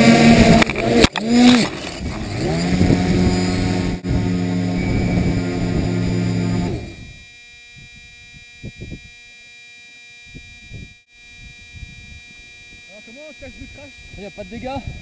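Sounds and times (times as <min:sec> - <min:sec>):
drone motors running: 0:00.0 - 0:15.0
faint electronic tone: 0:02.4 - 0:15.0.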